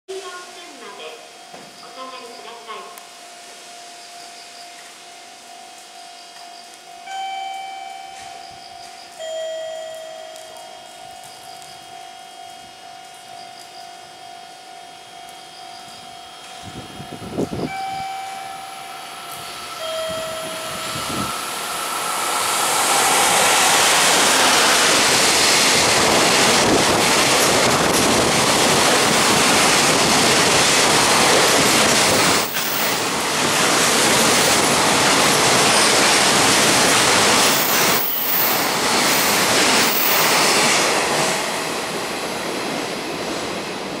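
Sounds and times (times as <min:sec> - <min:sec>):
train passing: 0:00.1 - 0:44.0
wheel-on-rail noise: 0:04.8 - 0:44.0.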